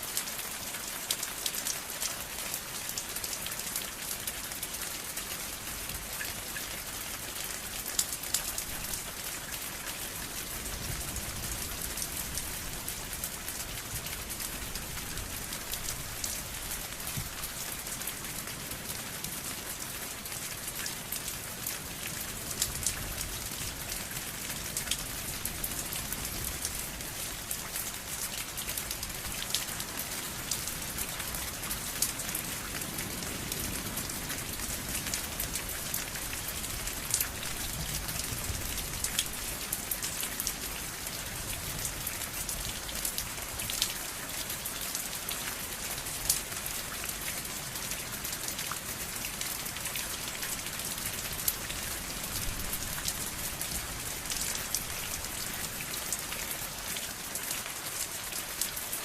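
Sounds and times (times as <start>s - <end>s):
rain patter: 0.0s - 59.0s.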